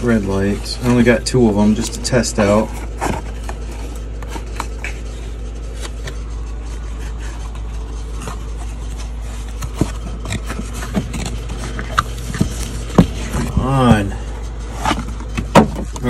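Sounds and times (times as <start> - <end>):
cardboard box scraping and clicking: 0.0 - 16.0
low machine hum: 0.0 - 16.0.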